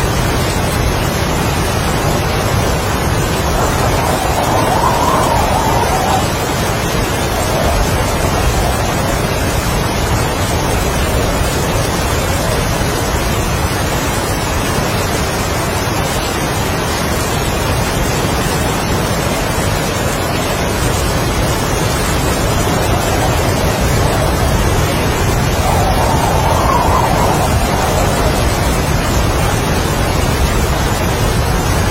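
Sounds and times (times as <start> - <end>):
heavy rain: 0.0 - 31.9
strong wind: 0.0 - 31.9.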